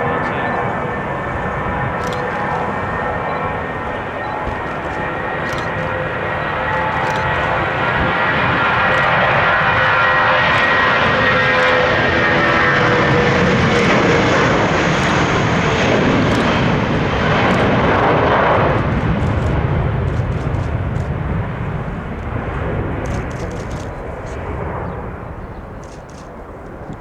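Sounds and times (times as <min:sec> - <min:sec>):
jet engines at takeoff: 0:00.0 - 0:27.0.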